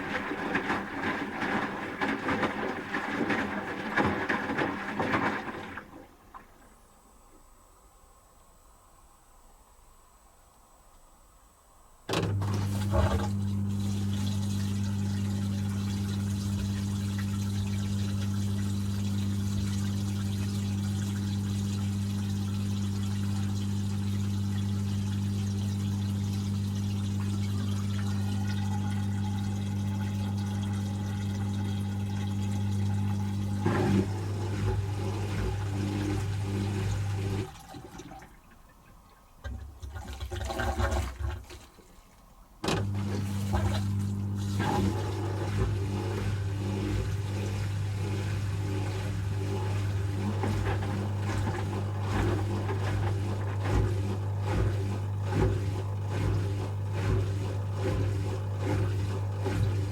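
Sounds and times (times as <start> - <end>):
water flushing out: 0.0 - 7.0, 12.1 - 59.9
washing machine drain pump humming: 0.0 - 8.4, 10.9 - 59.9.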